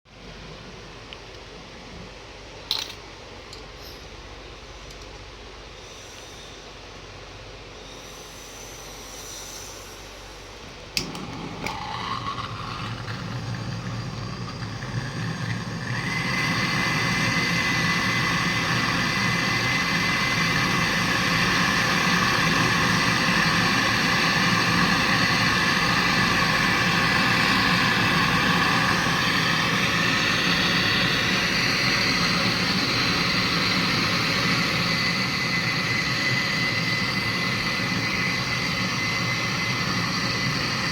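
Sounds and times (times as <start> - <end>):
compressor humming: 3.5 - 40.9
refrigerant gas hissing: 5.6 - 40.9.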